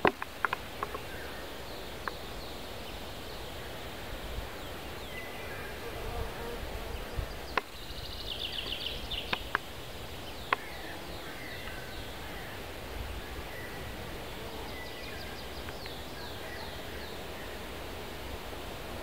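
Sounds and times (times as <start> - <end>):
songbirds singing: 0.1 - 17.9.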